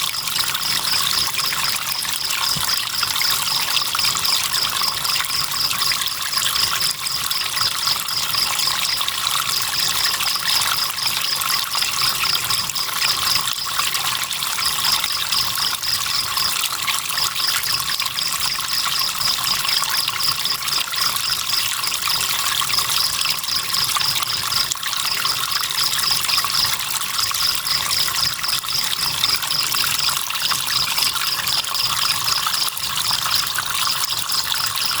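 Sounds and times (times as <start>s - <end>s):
cricket trilling: 0.0s - 35.0s.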